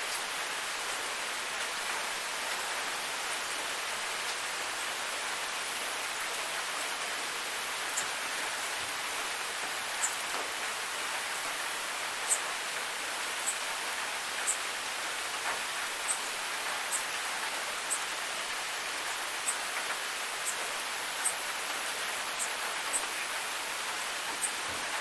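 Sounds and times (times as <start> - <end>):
light rain hissing: 0.0 - 25.0
sharp ticks of raindrops: 0.0 - 25.0.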